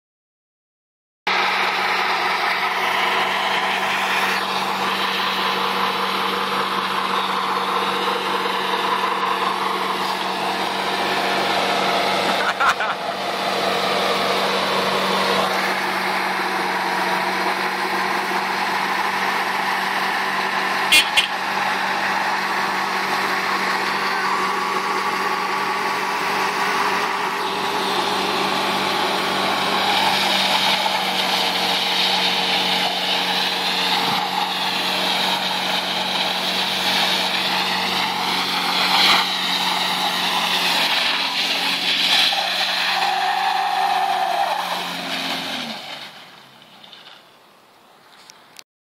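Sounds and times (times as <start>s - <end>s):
car engine at high revs: 1.3s - 47.2s
high-pitched tyre squeal: 1.3s - 47.3s.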